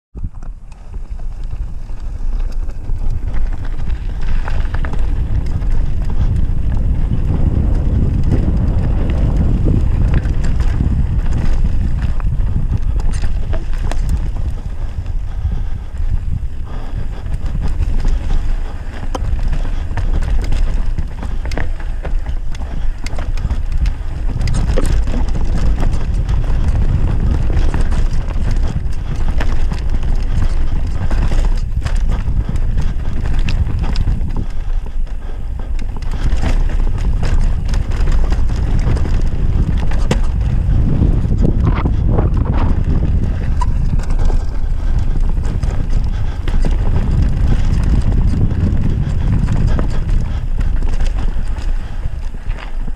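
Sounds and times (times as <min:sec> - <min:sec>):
bike rattling over bumps: 0:00.1 - 0:52.9
wind on microphone: 0:00.1 - 0:52.9
tyres on dirt: 0:00.2 - 0:52.9.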